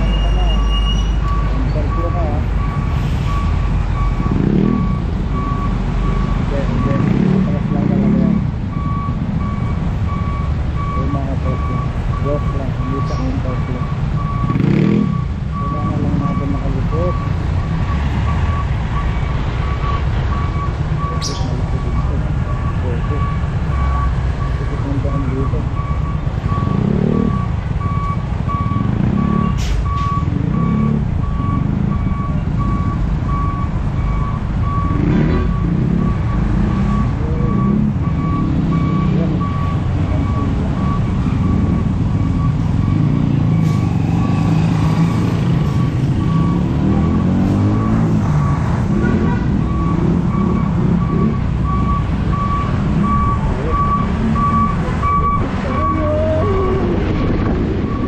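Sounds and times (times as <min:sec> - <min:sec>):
reverse warning beeper: 0:00.0 - 0:58.0.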